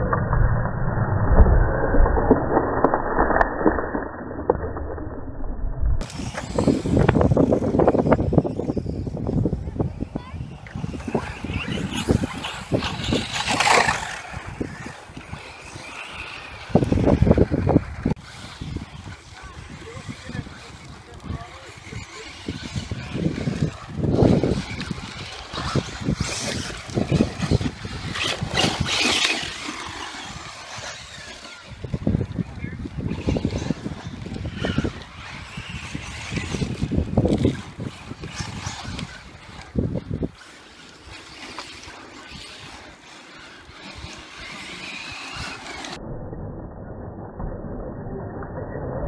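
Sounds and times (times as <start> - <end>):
electric toy car motors: 6.0 - 46.0.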